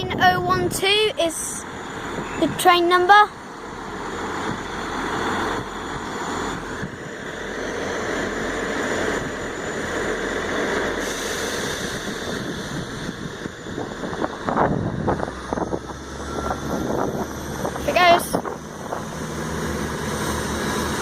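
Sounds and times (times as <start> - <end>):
diesel train engines running: 0.0 - 21.0.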